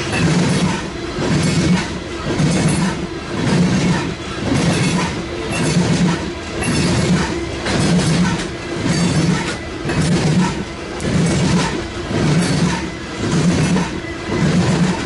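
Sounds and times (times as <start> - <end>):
train wheels clacking on rails: 0.0 - 15.0.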